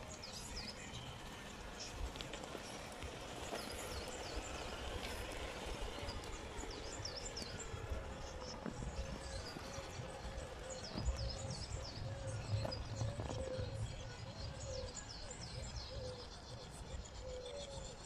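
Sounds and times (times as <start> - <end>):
electric motor whine: 0.0 - 16.8
low outdoor rumble: 0.0 - 18.0
small birds chirping: 0.0 - 18.0.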